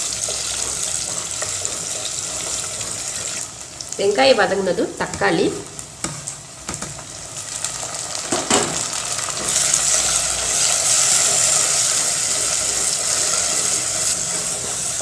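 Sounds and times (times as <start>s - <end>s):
onions and tomato sizzling in oil: 0.0s - 15.0s.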